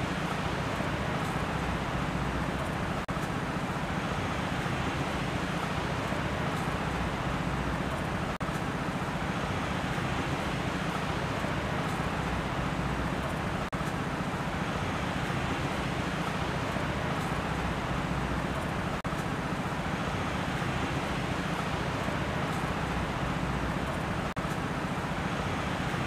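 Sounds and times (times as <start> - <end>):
rushing outdoor ambience: 0.0 - 26.0.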